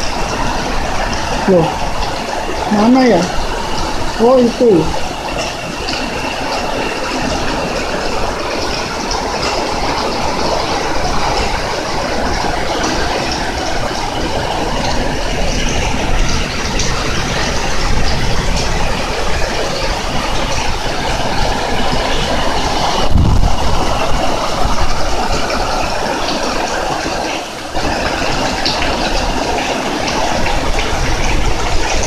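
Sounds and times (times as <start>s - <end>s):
heavy rain pouring: 0.0s - 32.0s
wind rumble on microphone: 0.0s - 32.0s.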